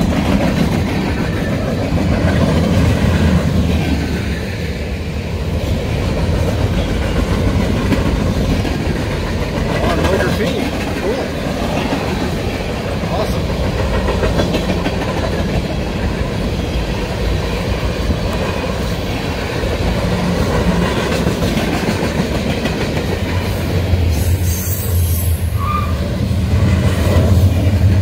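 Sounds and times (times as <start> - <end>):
clickety-clack over rail joints: 0.0 - 24.3
steel wheels rumbling on rails: 0.0 - 28.0.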